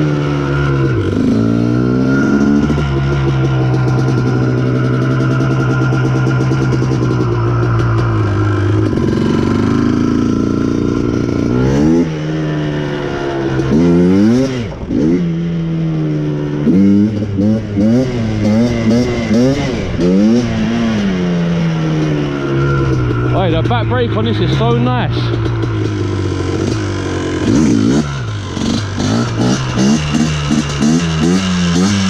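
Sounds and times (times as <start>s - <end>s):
quad engine revving: 0.0s - 32.0s.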